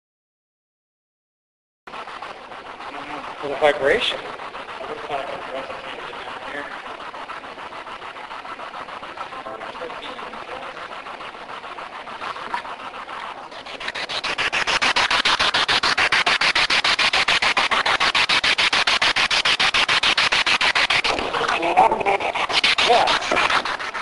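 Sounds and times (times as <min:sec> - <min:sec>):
pulsing radio static: 0:01.9 - 0:24.0.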